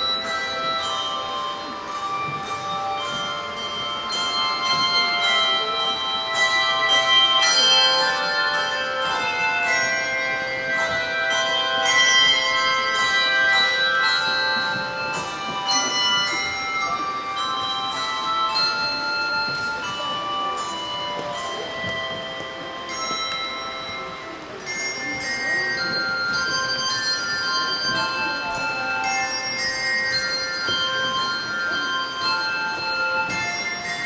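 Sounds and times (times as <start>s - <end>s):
handbells playing melody: 0.0s - 34.0s.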